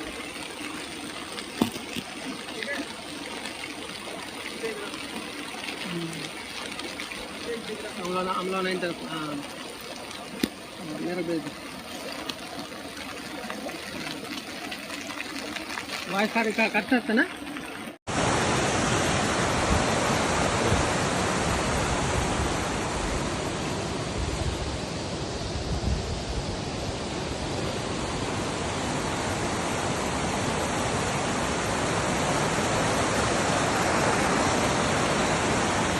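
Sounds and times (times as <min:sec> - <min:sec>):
floodwater rushing: 0:00.0 - 0:24.6, 0:27.4 - 0:35.9.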